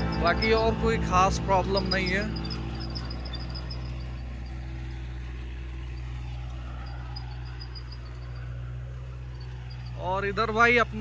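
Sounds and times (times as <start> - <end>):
tractor diesel engine drone: 0.0 - 11.0.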